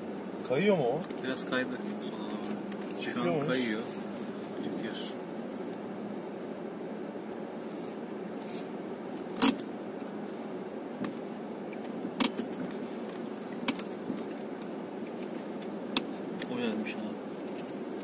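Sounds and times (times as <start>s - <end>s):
car engine drone: 0.0s - 18.0s.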